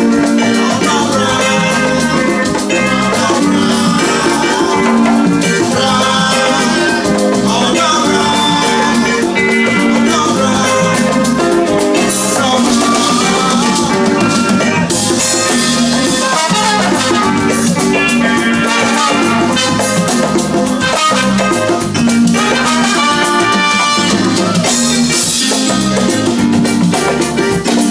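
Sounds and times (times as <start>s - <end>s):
drum kit and percussion groove: 0.0s - 27.9s
live band playing: 0.0s - 27.9s.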